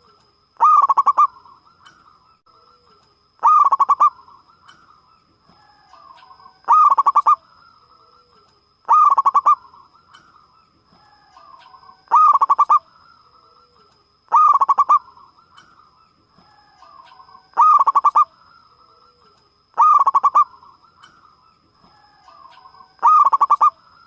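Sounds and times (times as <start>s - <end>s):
dove cooing: 0.0s - 1.8s, 2.6s - 7.4s, 8.0s - 10.0s, 11.0s - 23.8s.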